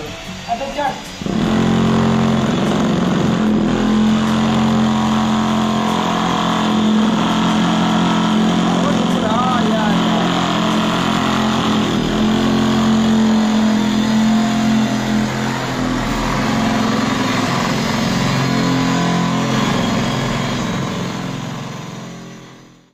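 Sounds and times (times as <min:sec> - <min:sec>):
electric tile vibrator humming: 0:00.0 - 0:22.9.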